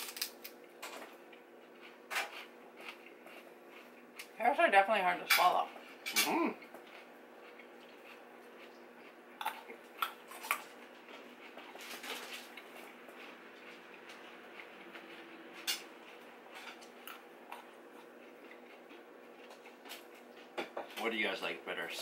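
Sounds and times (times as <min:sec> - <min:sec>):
chewing crunches: 0:00.0 - 0:04.4, 0:05.7 - 0:20.6
faint steady hum: 0:00.0 - 0:22.0.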